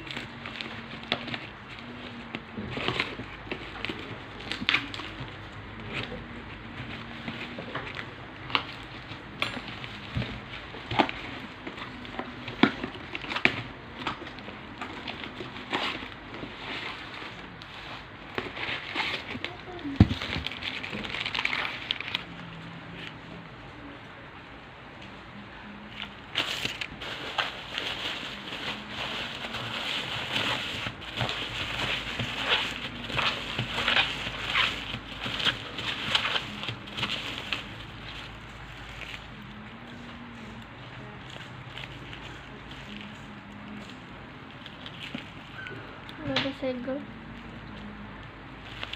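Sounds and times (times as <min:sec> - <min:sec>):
packaging crinkling: 0:00.0 - 0:23.2, 0:26.0 - 0:48.9.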